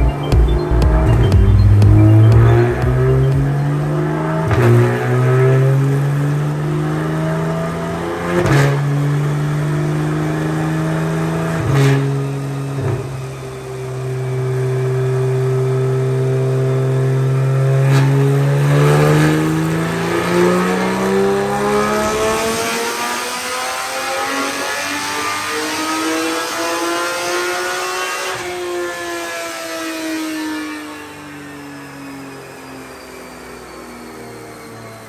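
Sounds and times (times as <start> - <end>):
car engine revving on dyno: 0.0 - 35.0.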